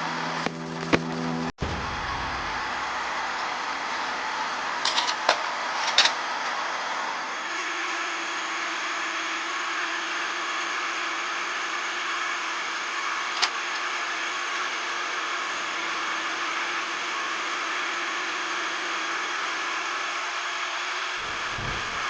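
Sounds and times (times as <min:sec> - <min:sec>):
machine running with hiss: 0:00.0 - 0:22.0.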